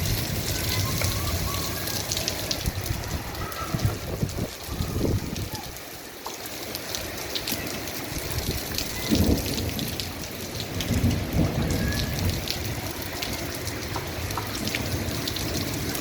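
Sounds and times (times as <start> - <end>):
thunder rumbles: 0.0 - 5.7, 8.1 - 16.0
raindrops striking close by: 0.0 - 16.0
steady rain: 0.0 - 16.0.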